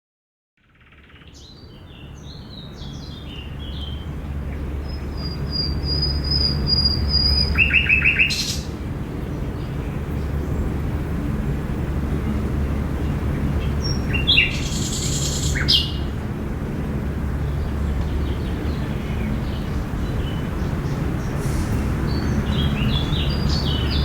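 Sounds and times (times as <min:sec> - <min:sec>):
songbirds chirping: 0:00.7 - 0:24.0.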